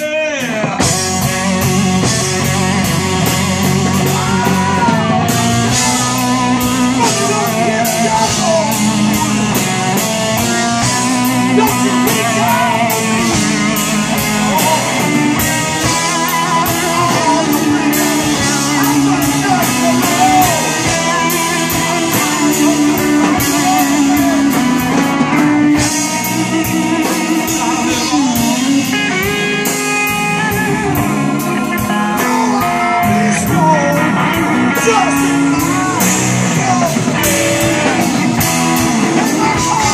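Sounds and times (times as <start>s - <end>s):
blues-rock band playing: 0.0s - 39.9s
man singing lead vocal: 0.0s - 39.9s.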